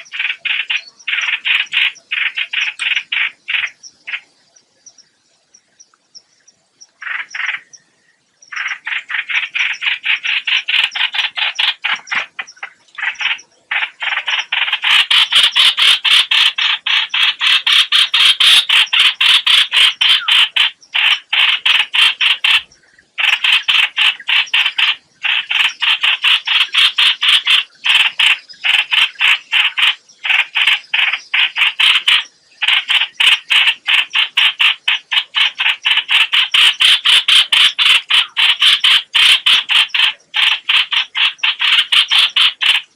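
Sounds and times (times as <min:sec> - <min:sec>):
harsh chattering bird calls: 0:00.0 - 0:42.9.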